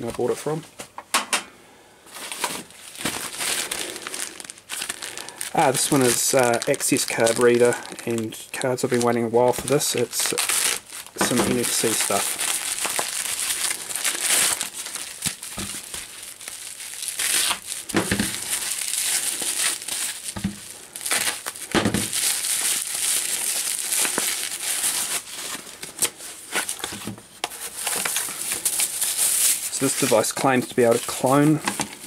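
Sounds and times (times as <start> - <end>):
plastic bag and bubble wrap crinkling: 2.1 - 32.0.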